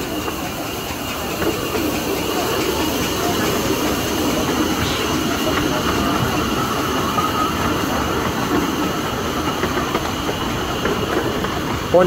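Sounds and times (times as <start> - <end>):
miniature train rumbling and rattling: 0.0 - 12.0.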